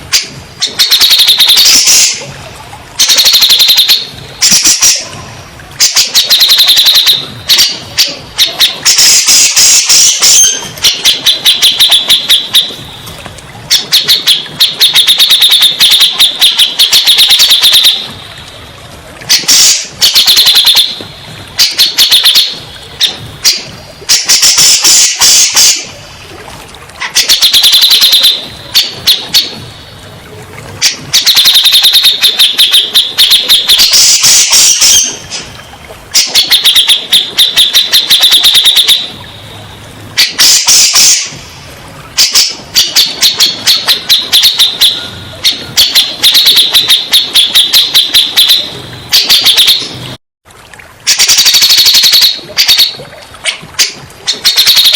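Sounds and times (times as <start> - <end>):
bulbul song: 0.0 - 50.2, 51.0 - 54.9.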